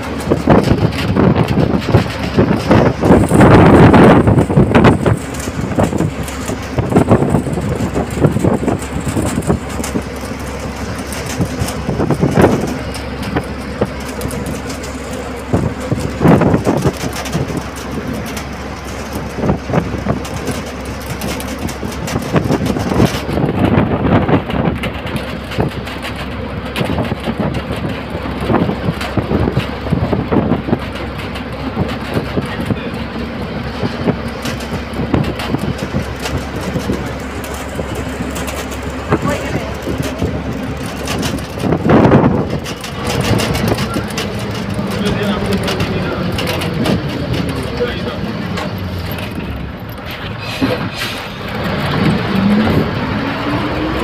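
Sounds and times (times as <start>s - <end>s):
bus engine and road noise: 0.0s - 54.0s
sharp knocks and rattles: 0.0s - 54.0s.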